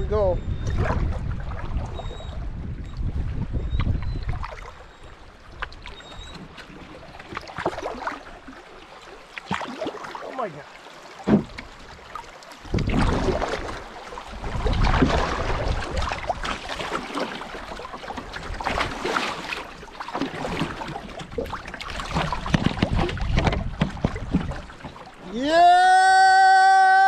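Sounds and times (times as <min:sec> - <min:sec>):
rapid water splashing against canoe: 0:00.2 - 0:26.9.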